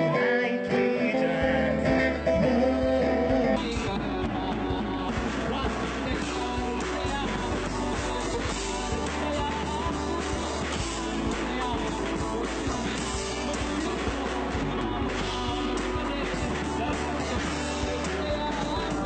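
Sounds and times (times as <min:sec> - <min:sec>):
live rock band playing: 0:00.0 - 0:19.0
drum kit and cymbals: 0:03.4 - 0:19.0.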